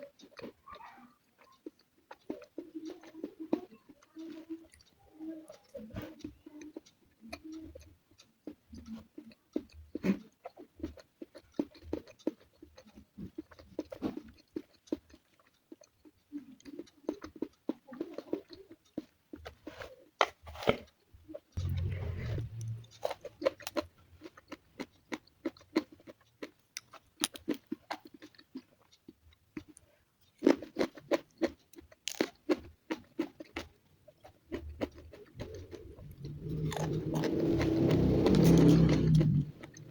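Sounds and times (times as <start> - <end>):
person chewing crunchy vegetables: 0.0 - 39.9.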